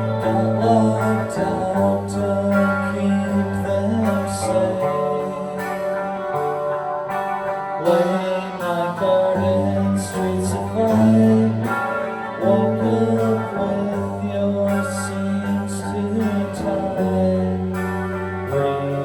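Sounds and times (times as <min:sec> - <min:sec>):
bass line: 0:00.0 - 0:19.0
guitar playing: 0:00.0 - 0:19.0.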